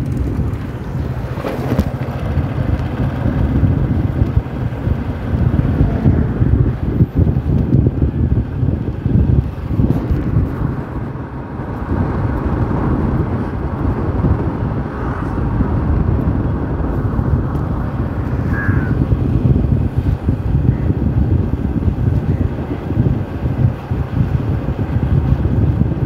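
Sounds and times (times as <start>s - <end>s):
motorcycle engine: 0.0s - 25.8s
road noise: 0.0s - 26.0s
wind rumble on microphone: 0.0s - 26.0s.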